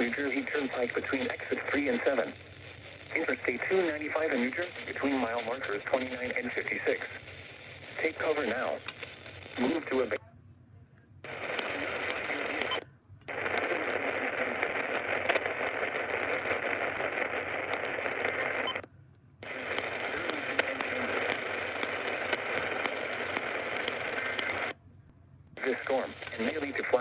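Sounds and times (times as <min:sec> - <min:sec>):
radio static hiss: 0:00.0 - 0:10.2, 0:11.2 - 0:18.8, 0:19.4 - 0:24.8, 0:25.6 - 0:27.0.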